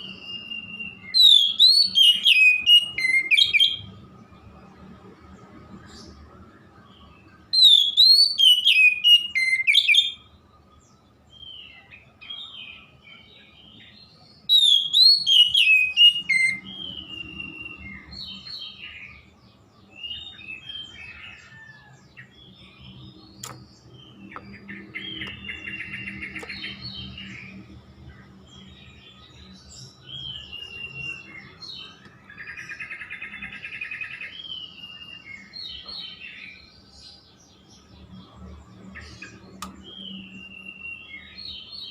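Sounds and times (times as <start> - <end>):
bird whistled song: 0.0 - 4.0, 5.8 - 36.7, 37.8 - 41.9
bird chirps: 0.0 - 41.9.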